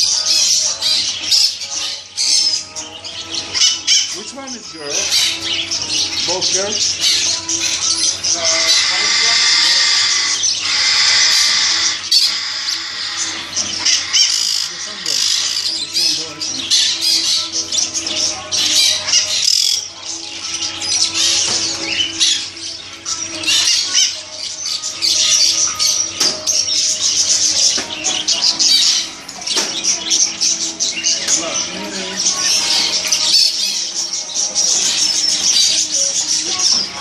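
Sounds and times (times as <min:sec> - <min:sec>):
birds chirping and squawking: 0:00.0 - 0:37.0.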